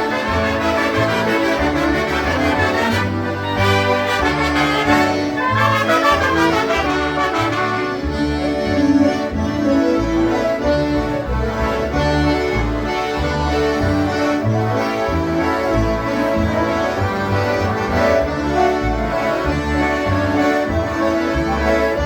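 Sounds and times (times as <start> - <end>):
bass line: 0.0 - 22.0
brass: 0.0 - 22.0
concertinas: 0.0 - 22.0
polka band playing: 0.0 - 22.0.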